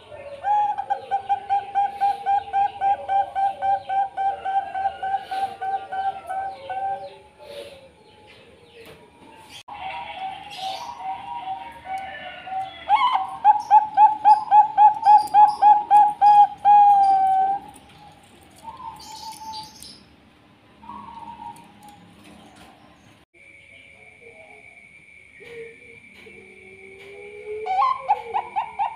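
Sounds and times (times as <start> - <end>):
dove cooing: 0.0 - 19.8, 20.8 - 22.8, 25.4 - 28.9.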